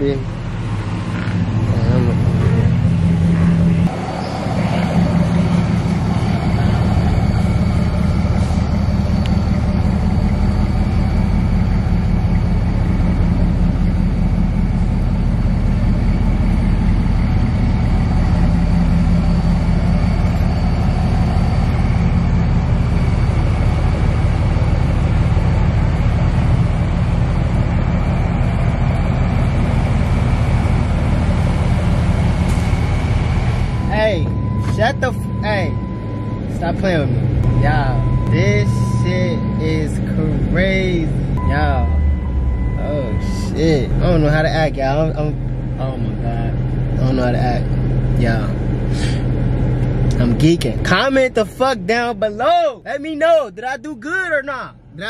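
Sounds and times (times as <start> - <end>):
pickup engine idling: 0.0 - 55.0.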